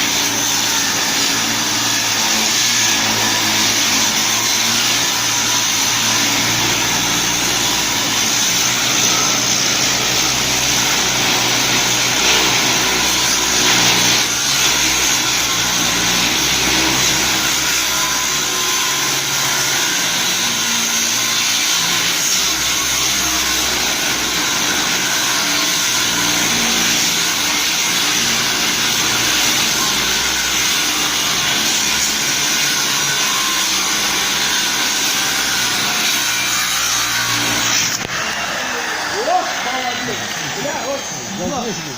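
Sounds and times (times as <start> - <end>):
angle grinder motor whining: 0.0 - 41.9.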